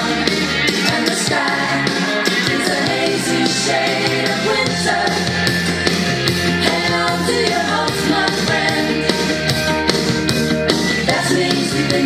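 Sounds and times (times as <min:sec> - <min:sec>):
rock music with singing: 0:00.0 - 0:12.0
steady drum beat: 0:00.0 - 0:12.0.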